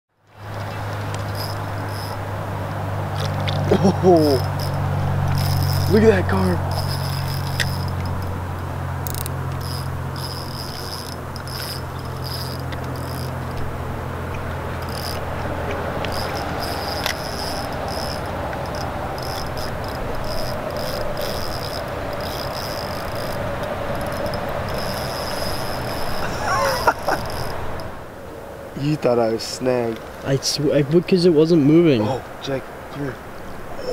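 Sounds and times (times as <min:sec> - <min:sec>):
constant hiss: 0:00.3 - 0:33.9
steady low hum: 0:00.4 - 0:28.8
insects trilling: 0:00.4 - 0:29.2.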